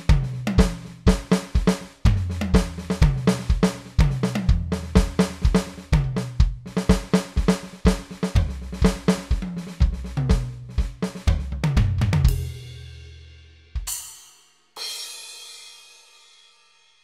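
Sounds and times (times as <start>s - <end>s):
drum pattern with bass booms: 0.0s - 15.2s.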